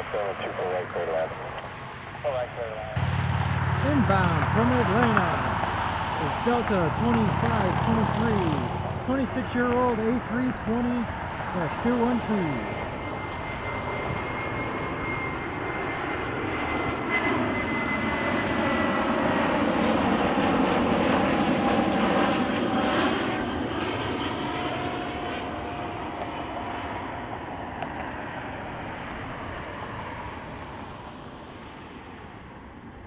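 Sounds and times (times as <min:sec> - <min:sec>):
jet airliner passing: 0:00.0 - 0:32.6.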